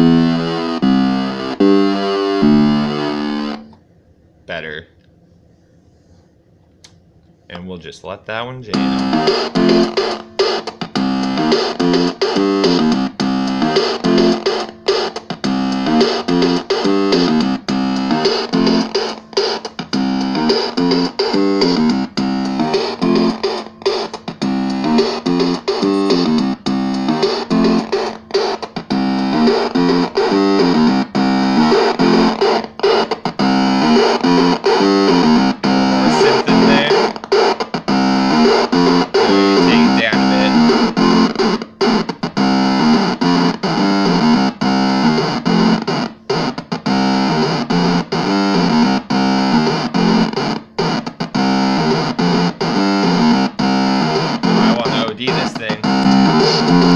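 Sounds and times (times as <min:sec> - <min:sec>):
distorted synth pattern: 0:08.8 - 0:50.4, 0:51.4 - 0:56.9.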